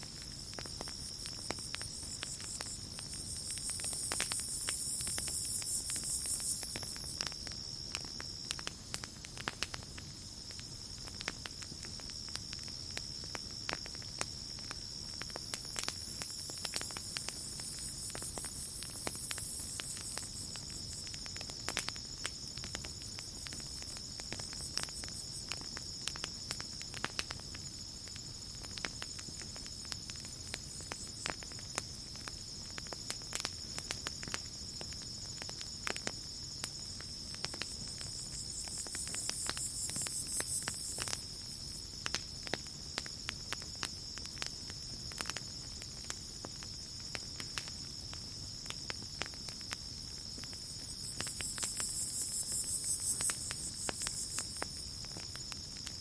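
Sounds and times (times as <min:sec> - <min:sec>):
campfire crackling and popping: 0:00.0 - 0:56.0
crickets chirping: 0:00.0 - 0:56.0
high insect trill: 0:00.0 - 0:56.0.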